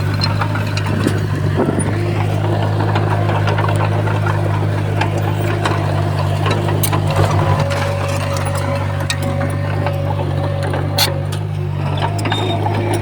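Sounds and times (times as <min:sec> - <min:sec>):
heavy diesel engine running: 0:00.0 - 0:13.0
metallic clanks and ticks: 0:00.0 - 0:13.0.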